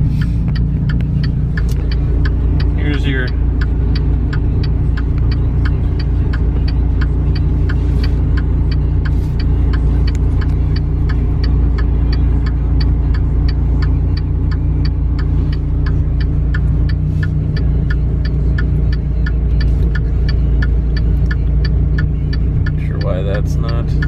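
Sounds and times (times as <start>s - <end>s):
car engine idling: 0.0s - 24.0s
light engine ticking: 0.0s - 24.0s.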